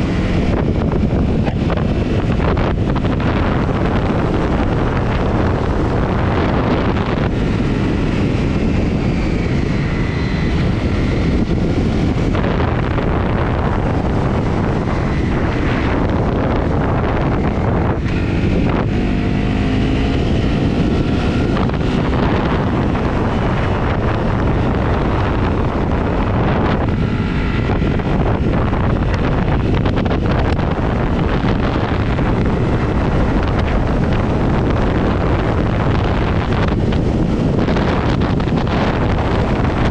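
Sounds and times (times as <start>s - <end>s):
motorcycle engine running: 0.0s - 39.9s
wind buffeting on microphone: 0.0s - 39.9s.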